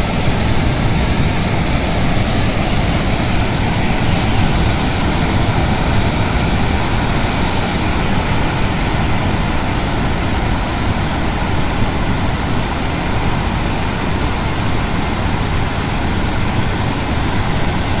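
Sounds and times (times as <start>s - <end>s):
water rushing through spillway: 0.0s - 18.0s.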